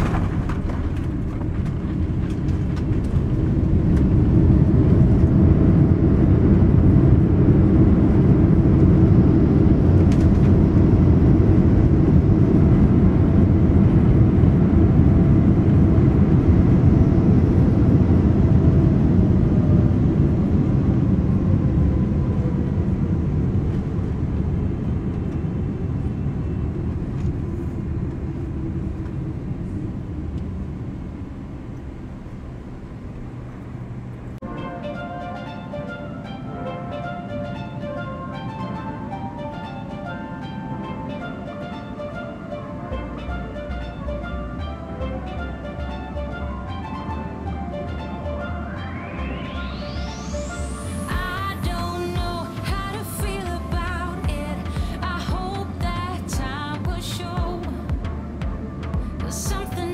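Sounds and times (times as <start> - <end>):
jet cabin rumble on landing: 0.0 - 59.9.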